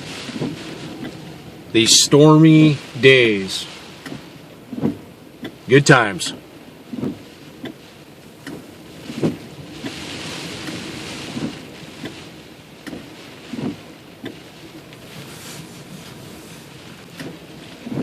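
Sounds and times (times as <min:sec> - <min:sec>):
storm wind and rain: 0:00.0 - 0:18.0
wind gusts thumping: 0:00.0 - 0:18.0.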